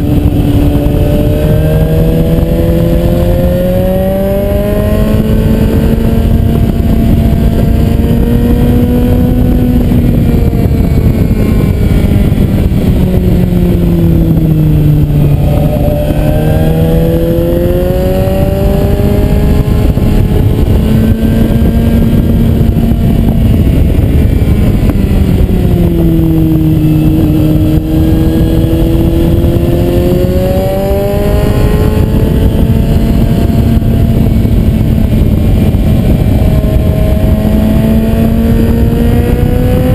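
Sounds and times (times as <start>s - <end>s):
motorcycle engine revving: 0.0s - 39.9s
wind rushing: 0.0s - 39.9s.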